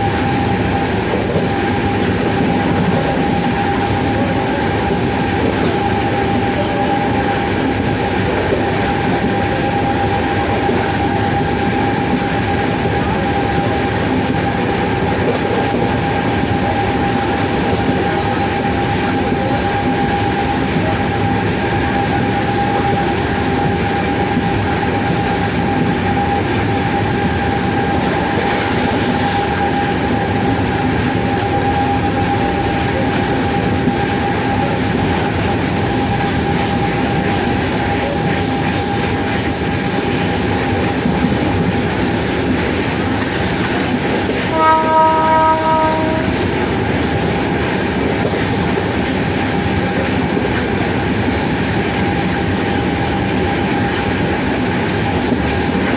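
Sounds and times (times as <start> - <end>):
rumble of moving train: 0.0 - 55.9.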